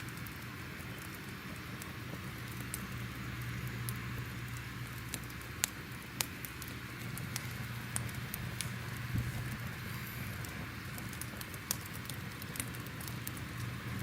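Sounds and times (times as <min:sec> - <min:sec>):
crackling fire hiss and rumble: 0:00.0 - 0:14.0
fire popping: 0:00.0 - 0:14.0.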